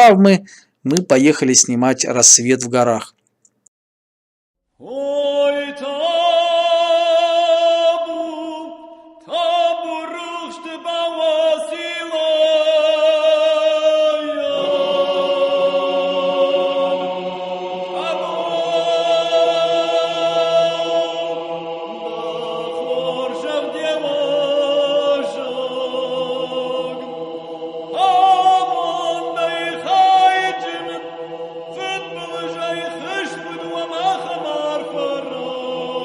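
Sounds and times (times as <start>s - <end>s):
choir holding long notes: 4.8s - 36.0s.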